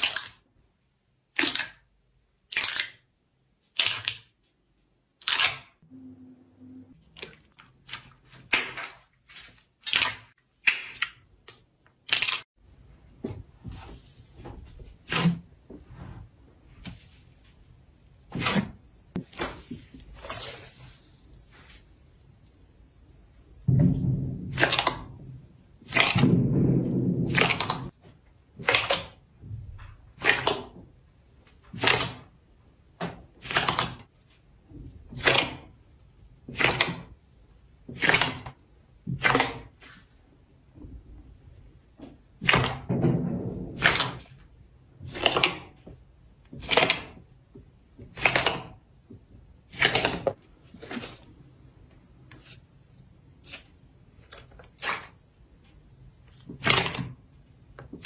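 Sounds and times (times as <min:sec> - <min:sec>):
slime squelching: 0:05.0 - 0:12.6, 0:13.4 - 0:40.8, 0:41.4 - 0:58.0.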